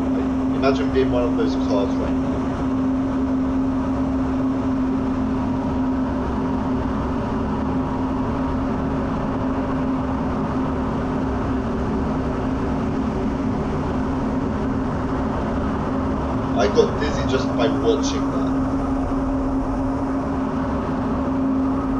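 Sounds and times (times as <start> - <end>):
constant hum: 0.0 - 21.9
jet engine and air noise: 0.0 - 21.9.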